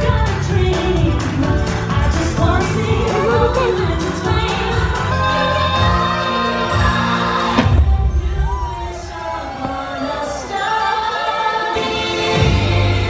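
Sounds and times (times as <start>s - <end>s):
pop music with singing: 0.0s - 13.0s.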